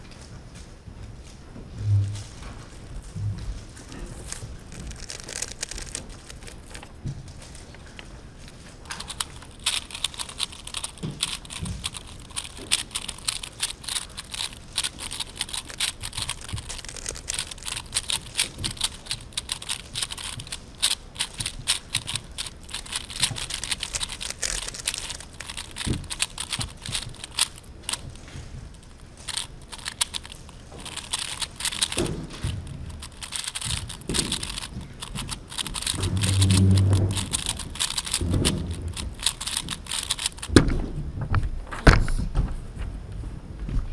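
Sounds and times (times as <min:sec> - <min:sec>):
low steady hum: 0:00.0 - 0:43.9
rapid plastic cube clicks: 0:03.9 - 0:07.0, 0:07.7 - 0:40.8.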